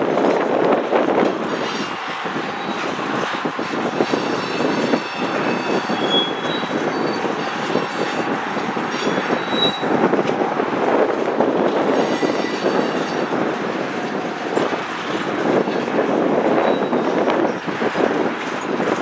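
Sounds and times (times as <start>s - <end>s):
steel wheels rumbling on rail: 0.0s - 19.0s
high wheel squeals: 1.5s - 10.4s, 11.7s - 19.0s.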